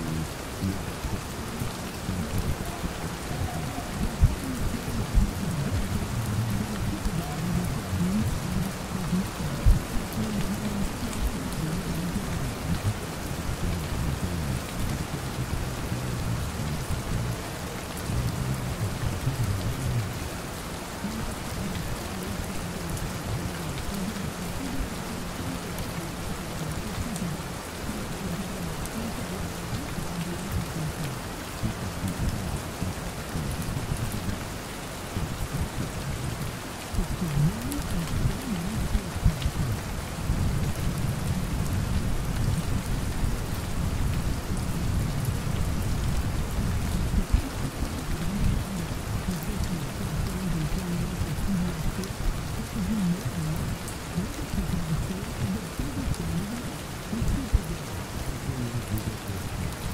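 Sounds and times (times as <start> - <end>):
low muffled rumble: 0.0 - 59.9
rain pattering on a window: 0.0 - 59.9.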